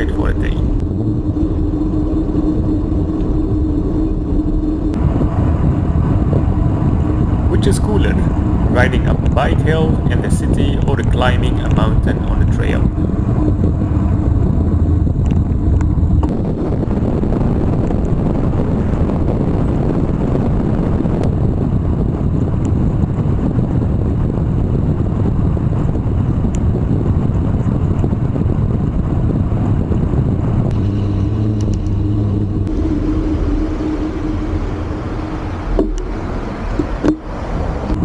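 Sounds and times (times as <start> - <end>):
low steady hum: 0.0 - 38.0
wind rumbling on microphone: 0.0 - 38.0.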